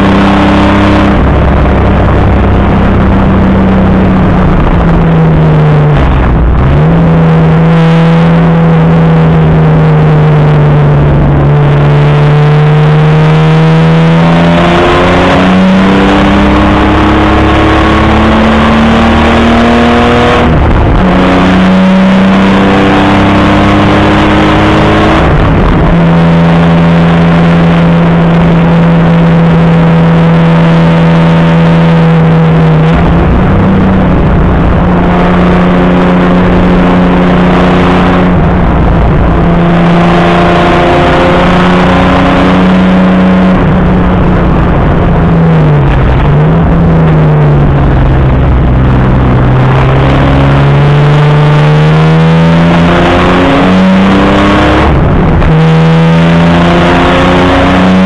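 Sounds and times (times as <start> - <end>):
racing engine at high revs: 0.0 - 58.0.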